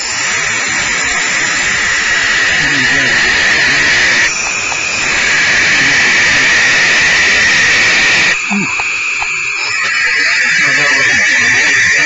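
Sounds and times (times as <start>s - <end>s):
barn owl hissing: 0.0s - 12.0s.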